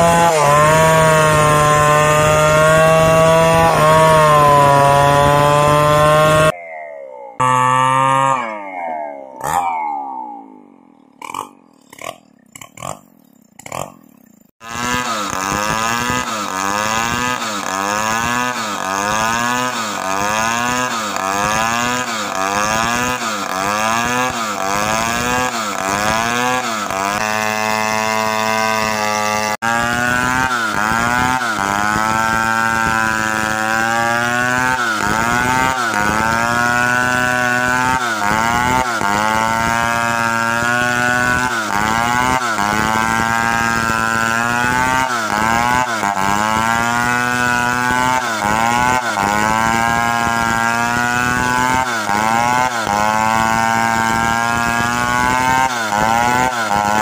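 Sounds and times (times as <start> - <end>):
saw ripping along log: 0.0 - 6.6, 7.4 - 57.0
chainsaw cutting logs: 0.0 - 57.0.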